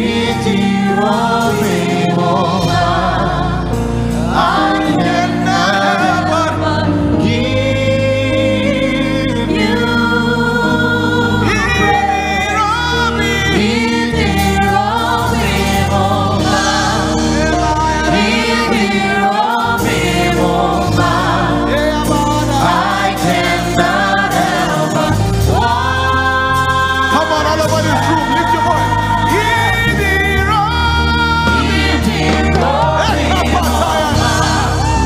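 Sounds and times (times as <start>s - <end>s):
band with bass line: 0.0s - 35.0s
lead singer and choir singing: 0.0s - 35.0s.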